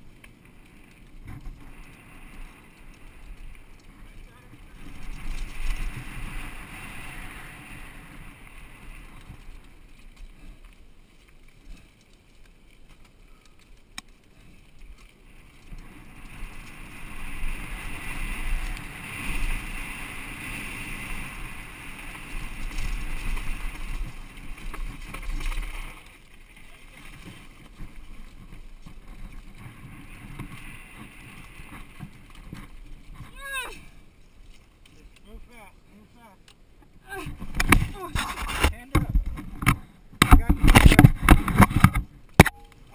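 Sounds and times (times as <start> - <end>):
bike rattling on loose dirt: 0.0 - 42.9.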